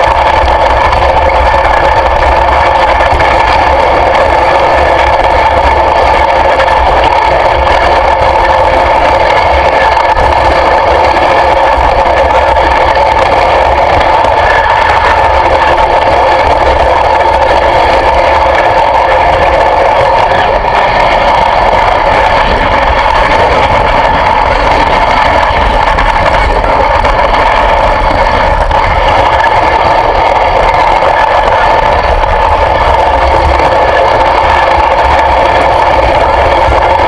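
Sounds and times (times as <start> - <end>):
engine running loud: 0.0 - 37.0.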